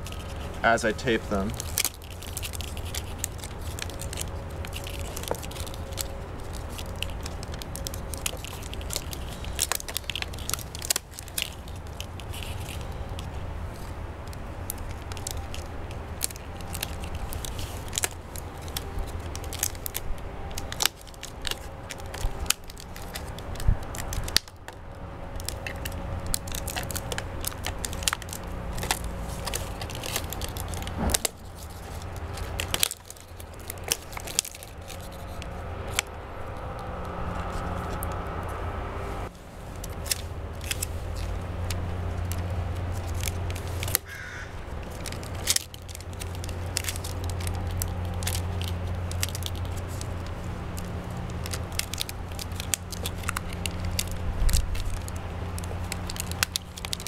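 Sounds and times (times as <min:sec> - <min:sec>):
thin plastic crackling: 0:00.0 - 0:38.6, 0:39.3 - 0:57.0
steady low rumble: 0:00.0 - 0:57.0.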